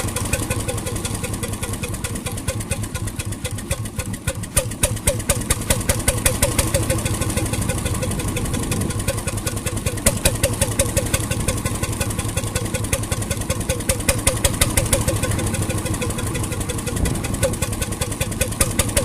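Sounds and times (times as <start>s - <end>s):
marine engine running: 0.0s - 19.0s.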